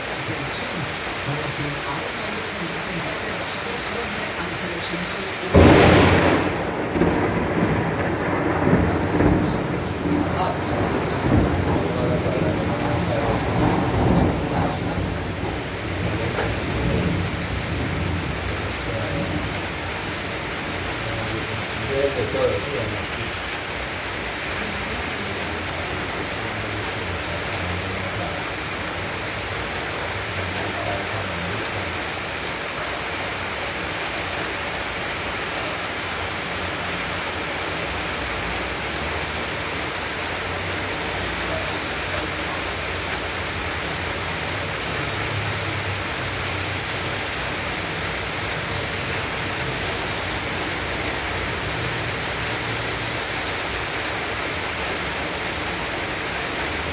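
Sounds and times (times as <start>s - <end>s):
running water: 0.0s - 6.0s, 8.6s - 56.9s
heavy rain: 0.0s - 56.9s.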